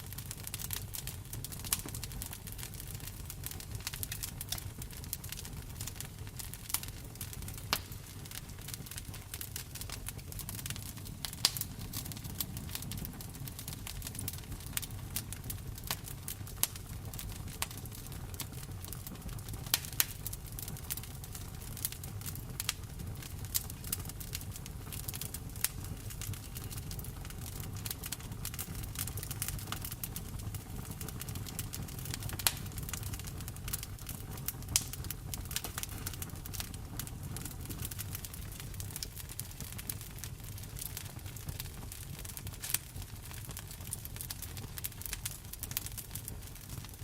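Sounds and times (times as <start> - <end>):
fire popping and snapping: 0.0 - 47.0
wood fire crackling: 0.0 - 47.0.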